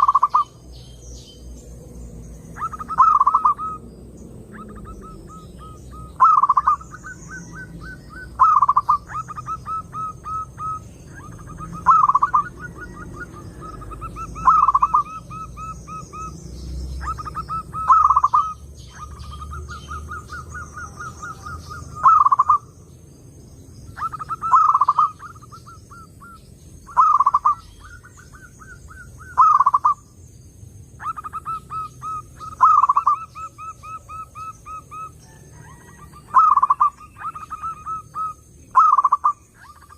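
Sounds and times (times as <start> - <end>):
dove cooing: 0.0 - 0.6, 2.4 - 22.7, 23.9 - 30.0, 31.0 - 39.9.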